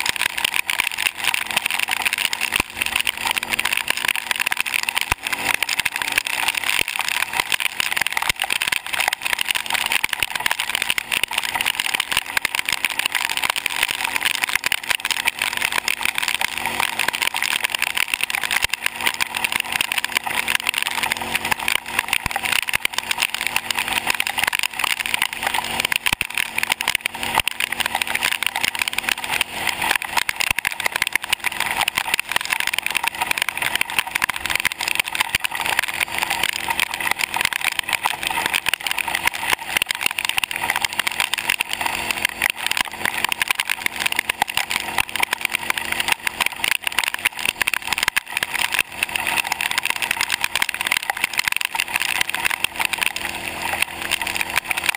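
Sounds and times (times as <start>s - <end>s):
atv engine cruising: 0.0s - 54.9s
tyres on wet road: 0.0s - 54.9s.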